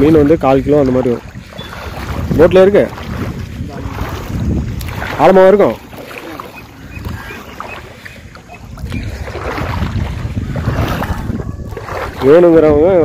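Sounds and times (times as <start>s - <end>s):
water lapping at shoreline: 0.0s - 13.0s
wind buffeting microphone: 0.0s - 13.0s.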